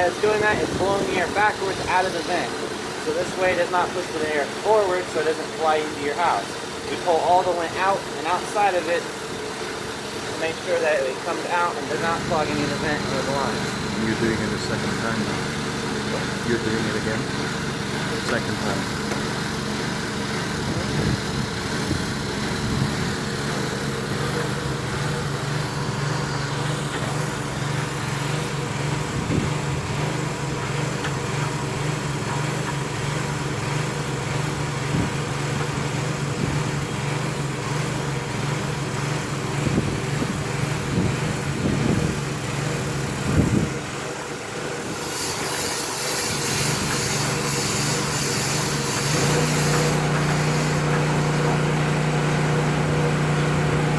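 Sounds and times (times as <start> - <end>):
loud rushing hiss of air: 0.0 - 31.0, 39.4 - 53.9
small engine running: 0.0 - 53.9.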